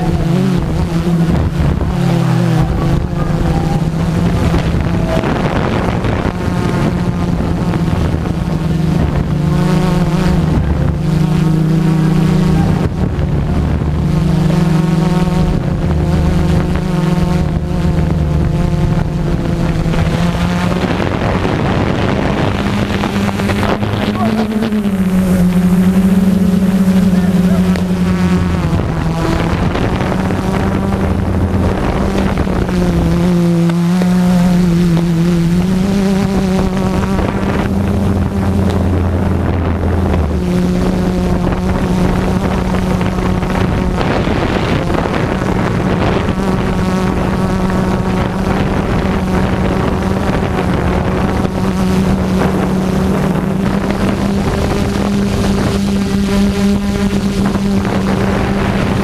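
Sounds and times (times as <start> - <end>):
drone propellers buzzing: 0.0 - 59.0
wind noise on microphone: 0.0 - 59.0.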